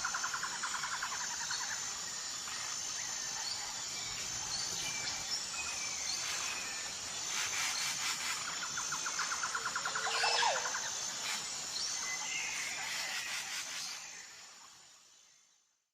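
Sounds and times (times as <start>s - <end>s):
insect trilling: 0.0s - 14.1s.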